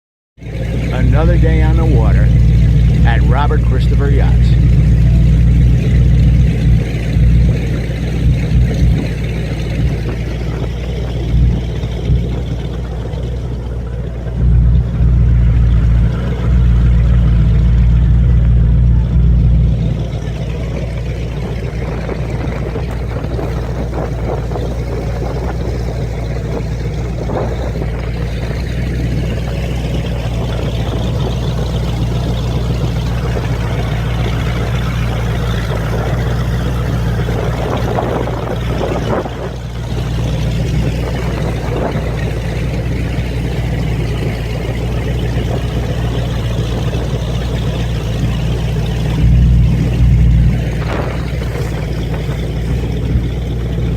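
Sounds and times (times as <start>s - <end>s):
motorboat engine droning: 0.4s - 53.9s
water rushing: 0.4s - 53.9s
wind: 0.4s - 53.9s.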